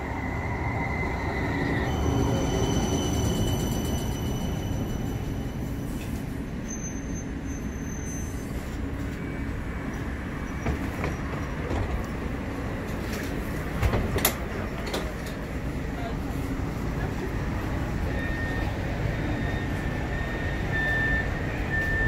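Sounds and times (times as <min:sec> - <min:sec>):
tram rumbling on rails: 0:00.0 - 0:22.0.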